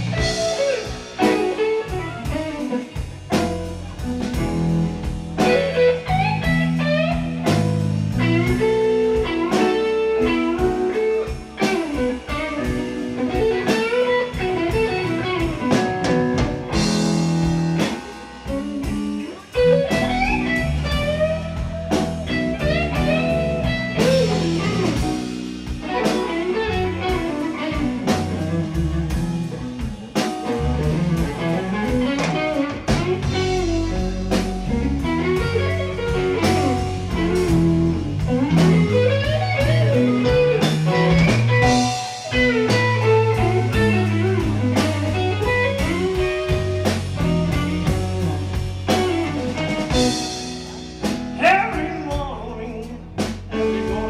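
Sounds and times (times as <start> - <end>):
bass guitar: 0.0 - 54.0
drum kit: 0.0 - 54.0
electric guitar lead lines: 0.0 - 54.0.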